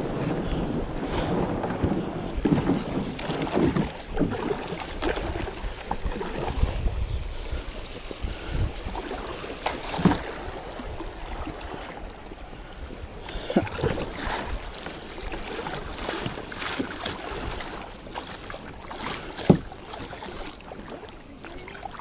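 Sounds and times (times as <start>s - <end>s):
paddle strokes splashing water: 0.0s - 22.0s.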